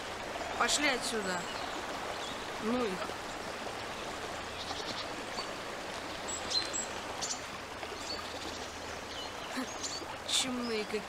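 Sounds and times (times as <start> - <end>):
stream water babbling: 0.0 - 11.0.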